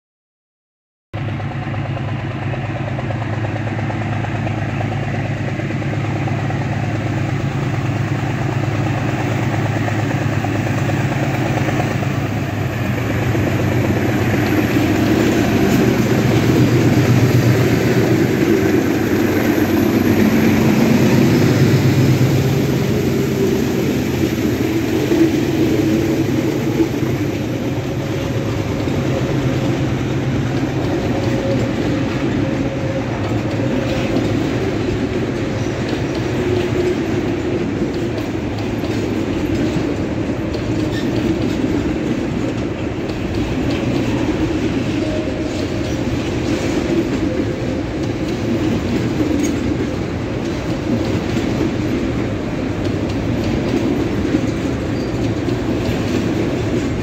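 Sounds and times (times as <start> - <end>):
diesel locomotives running: 1.2 - 57.0
wagons rolling over rails: 8.5 - 57.0.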